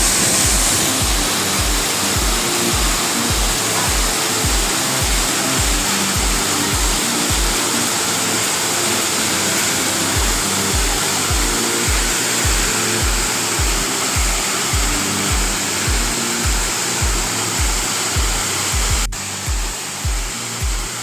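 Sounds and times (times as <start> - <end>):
music with thumping bass beat: 0.0 - 8.0, 10.2 - 21.0
waterfall rushing: 0.0 - 21.0.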